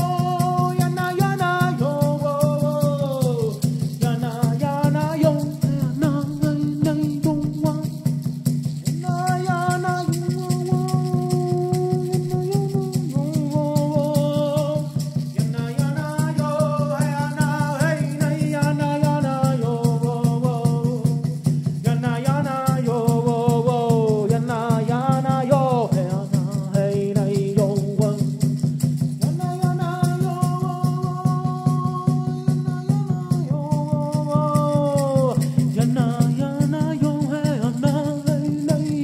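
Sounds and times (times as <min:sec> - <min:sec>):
person singing: 0:00.0 - 0:08.2, 0:08.9 - 0:28.3, 0:29.2 - 0:39.0
rattle shaken: 0:00.0 - 0:39.0.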